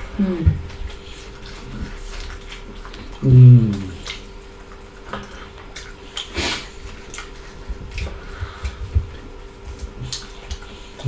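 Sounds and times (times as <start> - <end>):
chewing and lip smacks: 0.0 - 11.0.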